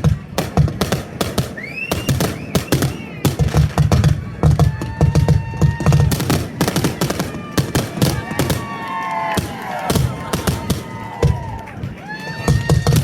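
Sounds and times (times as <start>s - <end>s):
fireworks bangs and crackles: 0.0s - 13.0s
whistling fireworks shells: 0.0s - 13.0s.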